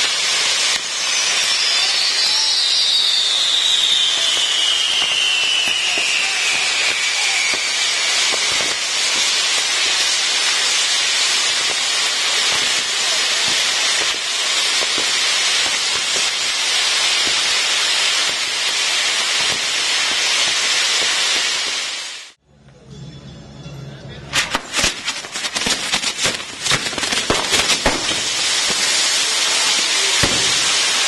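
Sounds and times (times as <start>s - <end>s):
firework sparks hissing: 0.0s - 22.4s, 24.4s - 31.0s
firework whistle: 0.0s - 22.4s, 24.3s - 31.0s.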